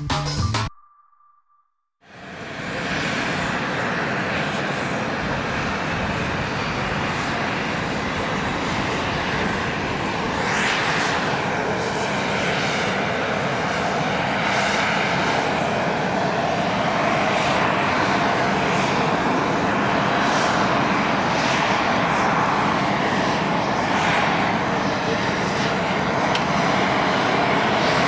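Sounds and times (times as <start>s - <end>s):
aircraft engine and propeller drone: 2.0s - 28.0s.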